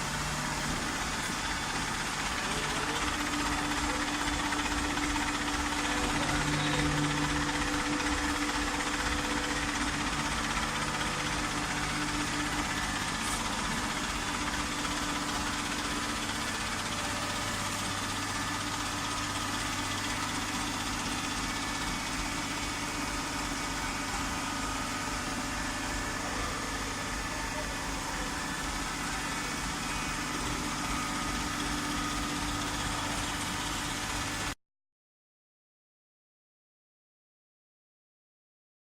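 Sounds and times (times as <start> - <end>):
baling machine humming: 0.0 - 34.5.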